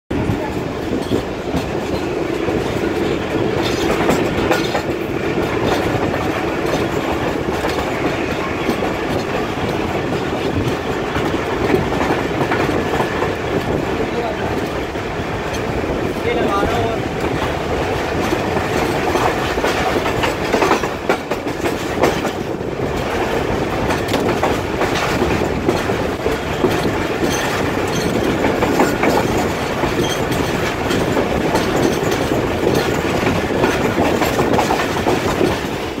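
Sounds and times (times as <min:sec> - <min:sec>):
train rushing rumble: 0:00.1 - 0:36.0
wheels clicking over rail joints: 0:00.1 - 0:36.0.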